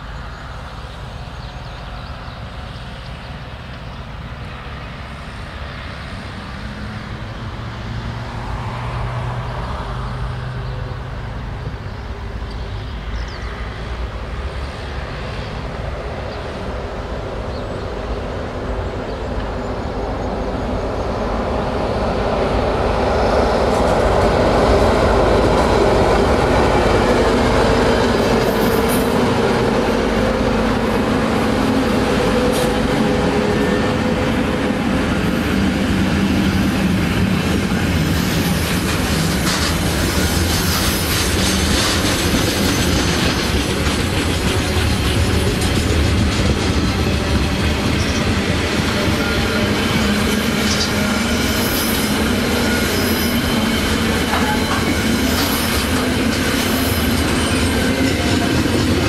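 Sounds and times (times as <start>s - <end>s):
electric locomotives passing: 0.0s - 59.0s.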